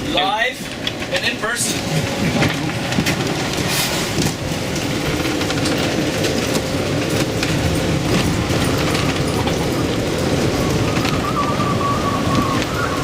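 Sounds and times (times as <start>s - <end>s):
heavy seas: 0.0s - 13.0s
storm wind rushing: 0.0s - 13.0s.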